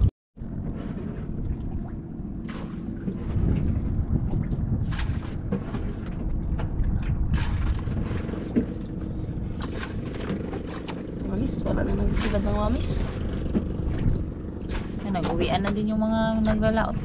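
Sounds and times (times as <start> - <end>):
boat engine hum: 0.0 - 17.0
wind buffeting microphone: 0.0 - 17.0.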